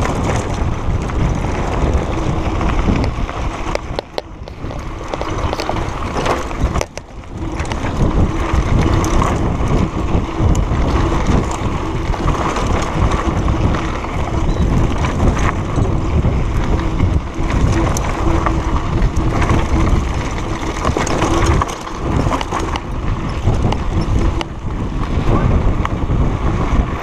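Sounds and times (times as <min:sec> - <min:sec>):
bike knocks and clatter: 0:00.0 - 0:26.6
mountain bike rattling: 0:00.0 - 0:27.0
tyres crunching over loose ground: 0:00.0 - 0:27.0
wind buffeting microphone: 0:00.0 - 0:27.0.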